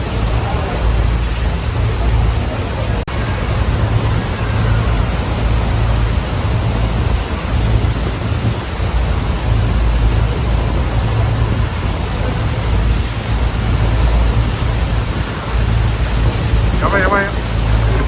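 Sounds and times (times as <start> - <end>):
waterfall roaring: 0.0 - 18.0
wind buffeting microphone: 0.0 - 18.0.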